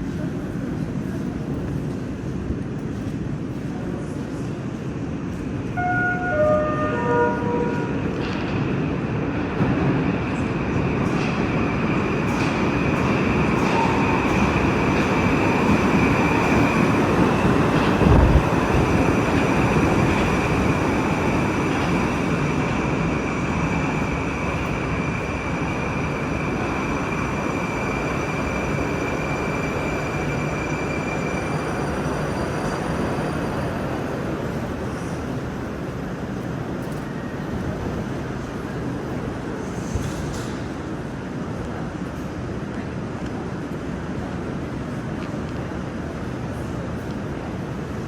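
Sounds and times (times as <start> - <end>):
metro train rumbling: 0.0 - 48.0.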